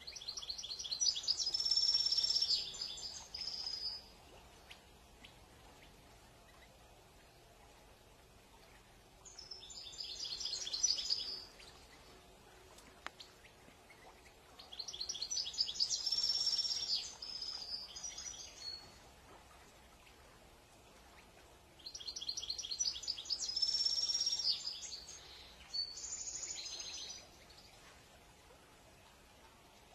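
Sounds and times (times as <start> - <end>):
goldfinch twittering song: 0.0 - 7.8, 8.6 - 27.8.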